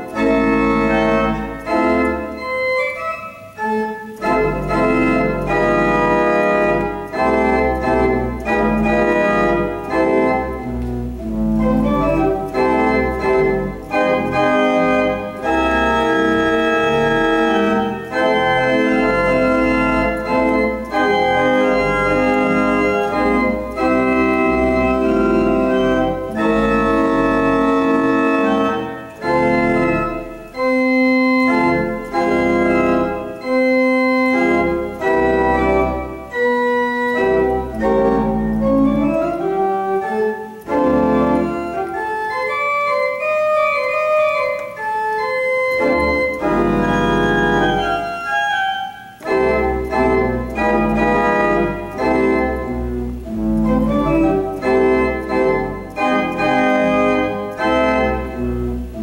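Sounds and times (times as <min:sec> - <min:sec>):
deep organ pedal bass: 0:00.0 - 0:59.0
organ chords: 0:00.0 - 0:59.0.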